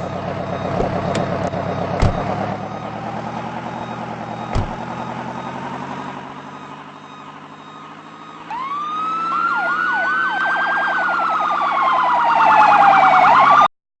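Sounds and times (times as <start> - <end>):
engine hum: 0.0 - 13.5
fire engine sirens: 0.0 - 13.7.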